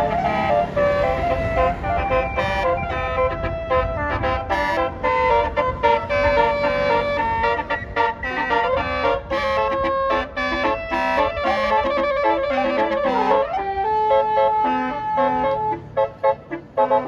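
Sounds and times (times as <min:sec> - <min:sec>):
bus horn playing a tune: 0:00.0 - 0:17.0
low engine rumble: 0:00.0 - 0:17.0.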